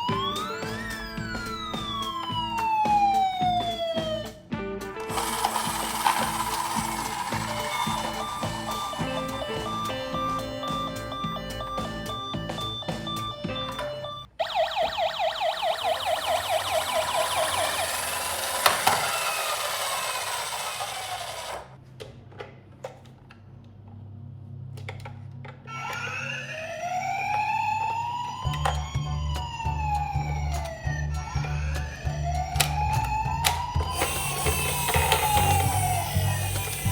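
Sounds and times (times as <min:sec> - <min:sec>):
fast up-and-down siren: 0:00.0 - 0:04.4, 0:05.1 - 0:21.6, 0:26.0 - 0:36.9
slow wailing siren: 0:00.0 - 0:04.4, 0:05.1 - 0:21.6, 0:25.9 - 0:36.9.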